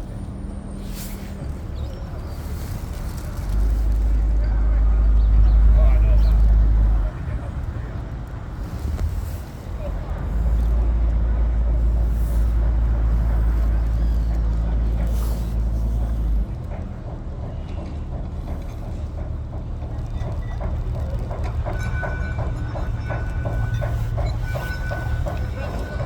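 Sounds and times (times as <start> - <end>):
boat engine chugging: 0.0 - 26.0.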